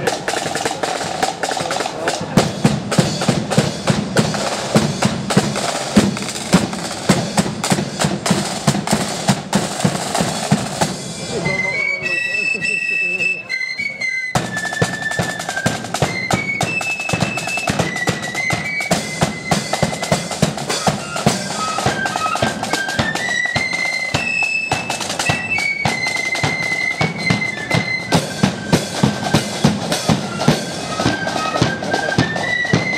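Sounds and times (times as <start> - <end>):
rapid snare drum strokes: 0.0 - 11.4, 14.4 - 32.9
flutes playing melody: 0.0 - 32.9.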